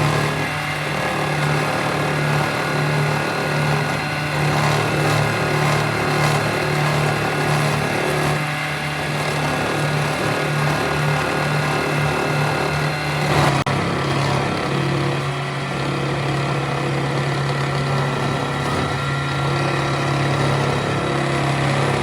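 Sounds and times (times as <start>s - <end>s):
motor running with low hum: 0.0s - 22.0s.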